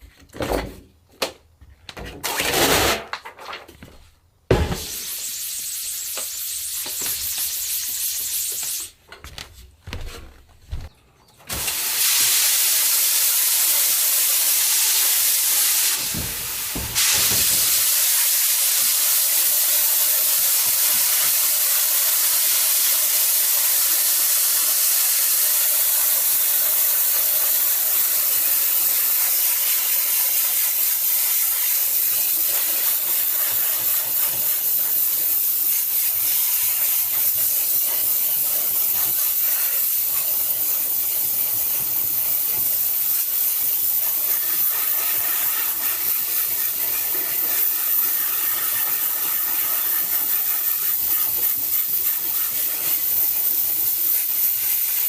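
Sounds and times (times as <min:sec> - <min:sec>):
water spray gun hissing: 0:04.6 - 0:09.0, 0:11.5 - 0:55.0.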